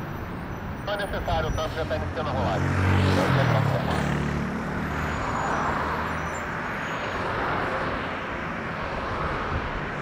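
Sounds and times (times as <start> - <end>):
distant jet engines roaring: 0.0 - 10.0.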